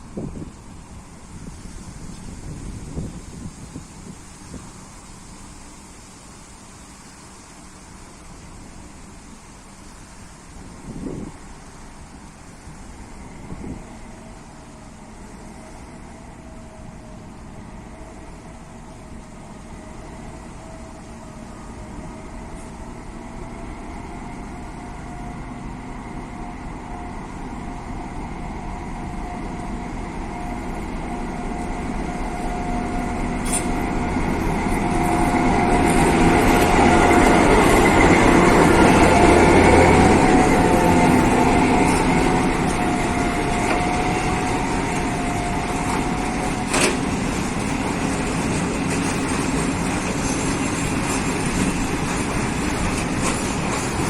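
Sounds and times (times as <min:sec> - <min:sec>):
locomotive rumble: 0:00.0 - 0:54.0.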